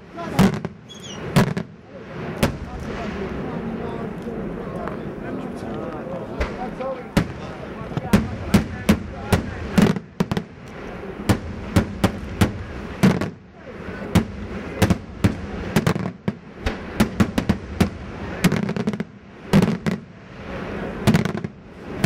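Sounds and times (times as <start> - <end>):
fireworks bursting with bangs: 0.0 - 5.1, 6.2 - 22.0.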